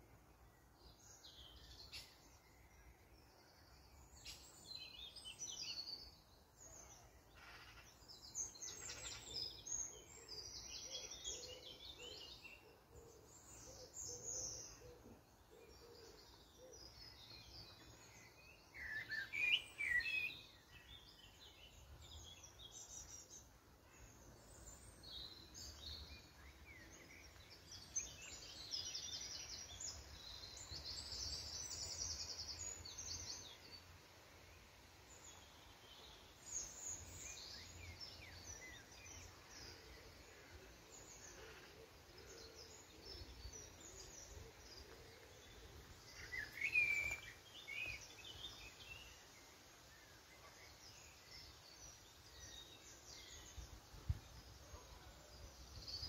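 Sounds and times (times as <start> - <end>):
birds chirping and singing: 0.8 - 33.9, 35.1 - 56.0.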